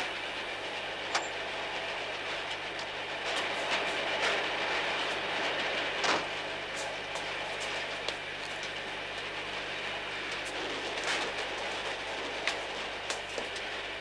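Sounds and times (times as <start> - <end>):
train rumble: 0.0 - 14.0
wheels clicking over rail joints: 0.0 - 14.0.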